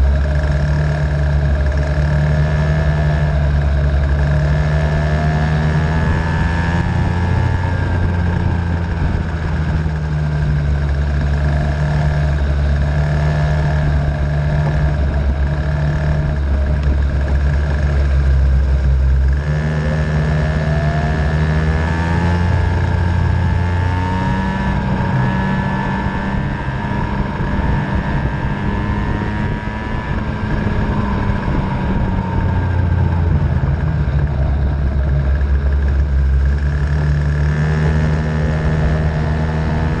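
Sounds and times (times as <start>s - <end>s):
racing engine accelerating: 0.0s - 40.0s
steady low drone: 0.0s - 40.0s.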